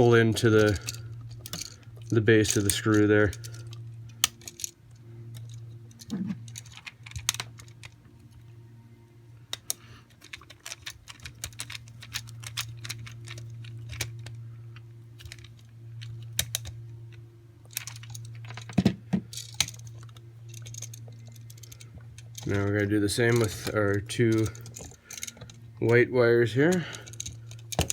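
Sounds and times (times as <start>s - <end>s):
low hum: 0.0s - 27.9s.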